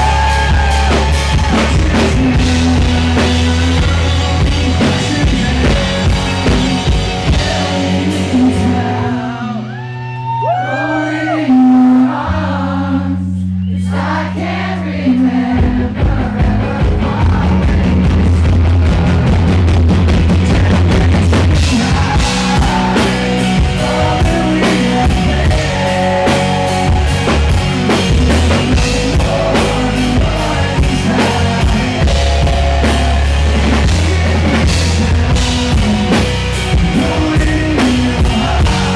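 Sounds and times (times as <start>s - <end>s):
drums: 0.0s - 10.8s, 13.4s - 38.9s
man singing: 0.0s - 14.1s, 14.9s - 19.5s, 20.2s - 38.9s
held bass notes: 0.0s - 38.9s
live rock band: 0.0s - 38.9s.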